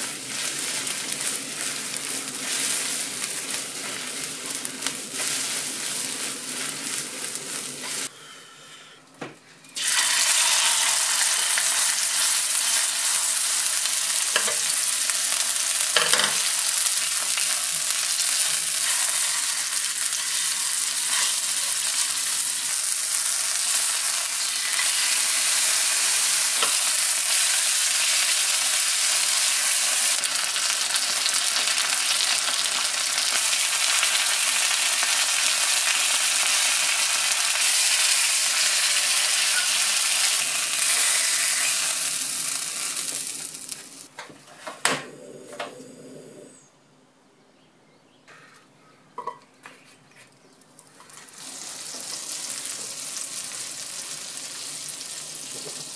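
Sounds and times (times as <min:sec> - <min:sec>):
meat sizzling in oil: 0:00.0 - 0:08.1, 0:09.8 - 0:44.1, 0:51.3 - 0:55.9.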